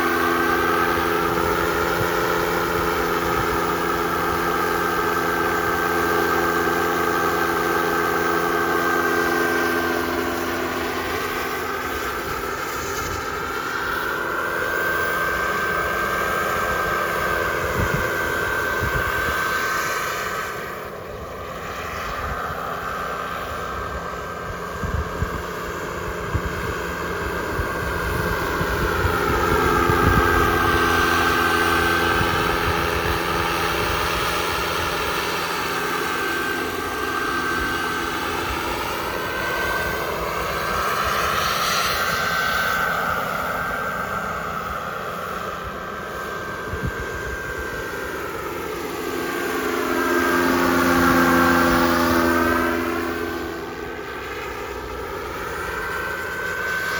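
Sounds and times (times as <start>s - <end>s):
model jet turbine whine: 0.0s - 56.9s.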